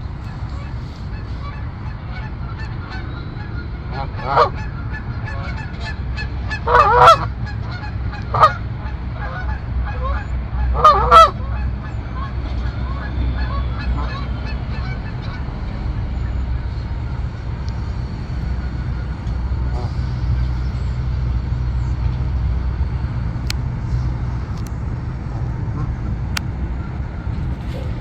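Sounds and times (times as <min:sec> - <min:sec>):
geese honking: 0:00.0 - 0:27.0
steady low rumble: 0:00.0 - 0:28.0.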